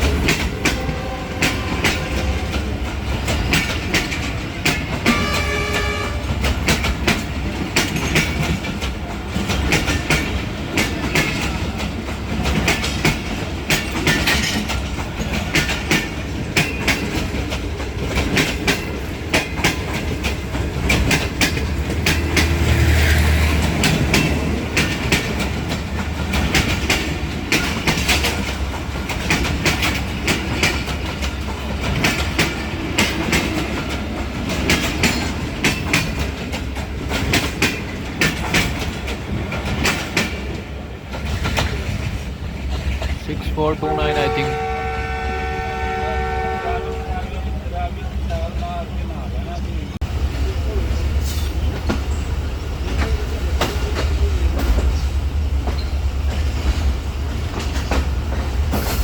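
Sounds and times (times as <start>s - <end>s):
train wheels clattering over rail joints: 0.0s - 43.2s, 50.4s - 59.0s
low train rumble: 0.0s - 59.0s.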